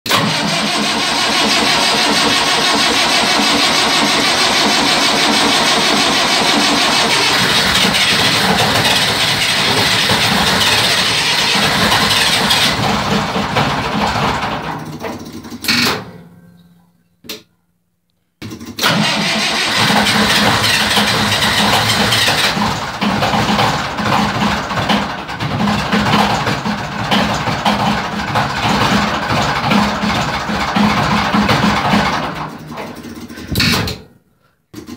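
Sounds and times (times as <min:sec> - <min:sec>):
diesel generator engine running: 0:00.1 - 0:15.3, 0:18.8 - 0:33.6.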